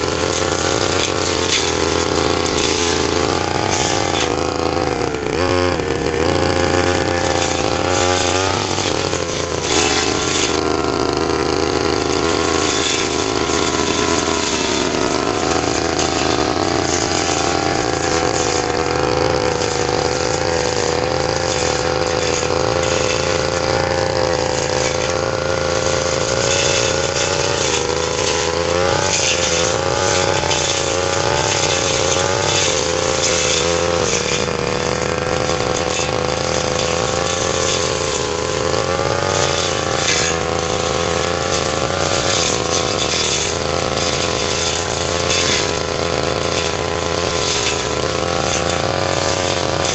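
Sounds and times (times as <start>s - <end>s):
brush cutter engine cutting grass: 0.0s - 49.9s.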